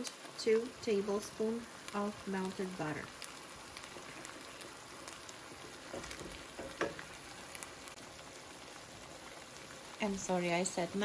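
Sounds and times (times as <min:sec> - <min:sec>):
meat frying in a pan: 0:00.0 - 0:11.0.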